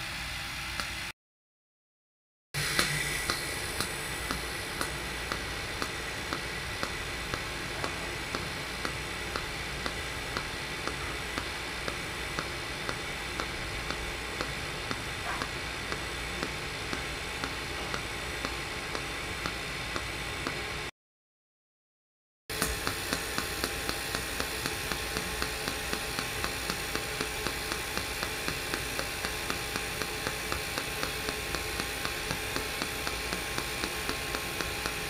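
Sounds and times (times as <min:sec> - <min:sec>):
welding arc hissing: 0:02.6 - 0:20.9, 0:22.5 - 0:35.0
light ticks of pulsed arc: 0:02.8 - 0:20.6, 0:22.6 - 0:35.0.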